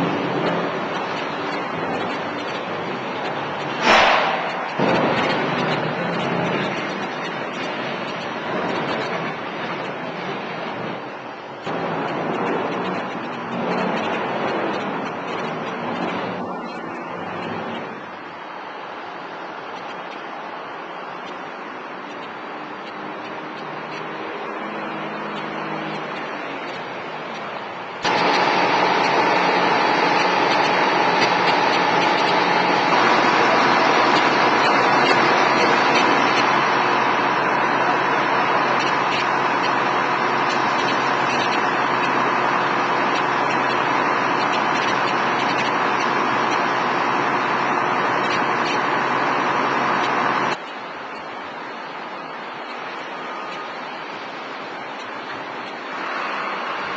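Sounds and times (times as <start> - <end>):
engine humming: 0.0 - 56.9.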